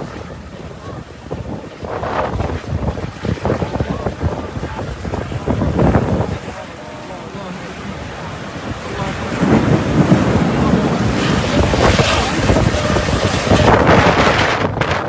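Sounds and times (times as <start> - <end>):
strong wind gusting on microphone: 0.0 - 15.0.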